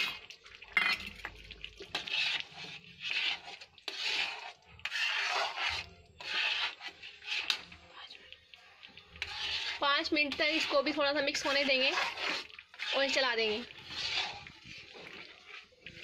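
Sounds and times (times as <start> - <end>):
metal spatula scraping pan: 0.0 - 7.8, 9.0 - 16.0.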